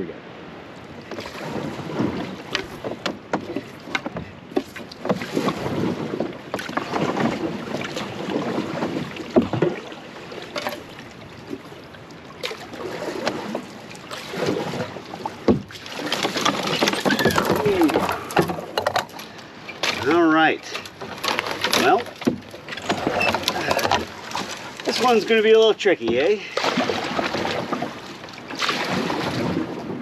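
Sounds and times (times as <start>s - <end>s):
paddle strokes splashing water: 0.3s - 30.0s.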